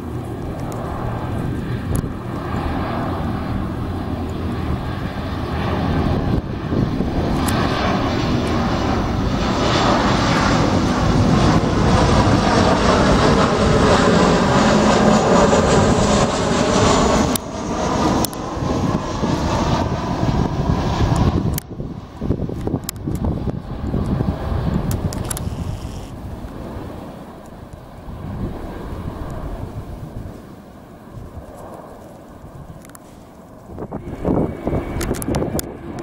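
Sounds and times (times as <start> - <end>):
airliner engines landing: 0.0 - 36.0.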